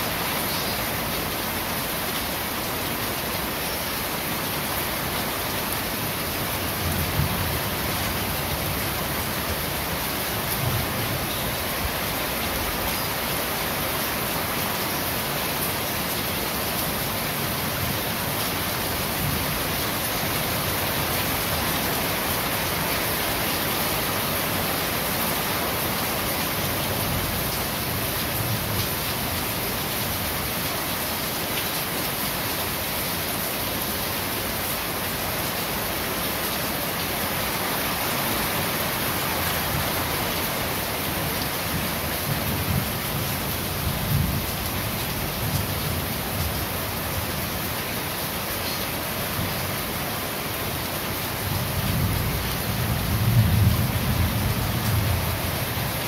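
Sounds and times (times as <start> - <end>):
rain on corrugated roof: 0.0 - 56.0.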